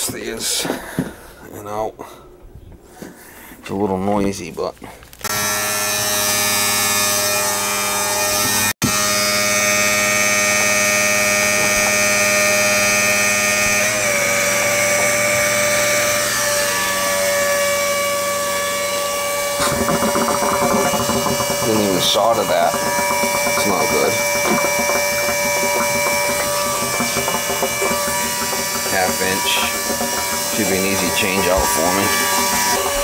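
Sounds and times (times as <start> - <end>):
electric motor whining: 5.2 - 33.0.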